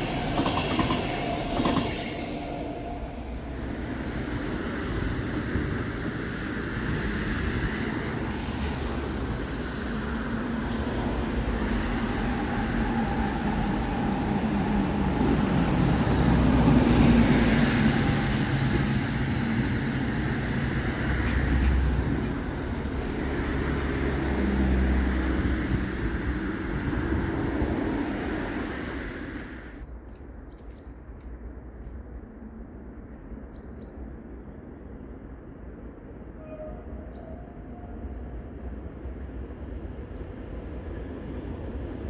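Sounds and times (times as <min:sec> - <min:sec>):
passenger train passing: 0:00.0 - 0:42.0.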